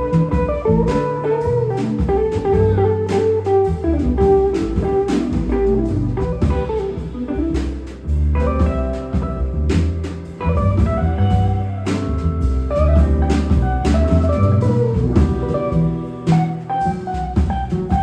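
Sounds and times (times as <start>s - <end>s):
bass line: 0.0s - 18.0s
drums: 0.0s - 18.0s
electric guitar melody: 0.0s - 18.0s.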